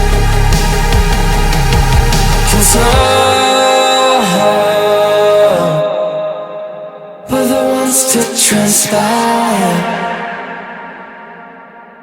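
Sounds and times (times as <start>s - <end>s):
pop song with heavy bass: 0.0s - 12.0s.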